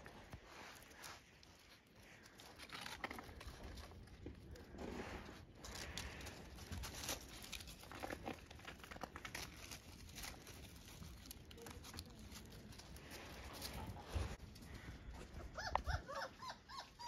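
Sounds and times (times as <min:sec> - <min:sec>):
crunching of dry leaves and gravel: 0:00.0 - 0:15.6.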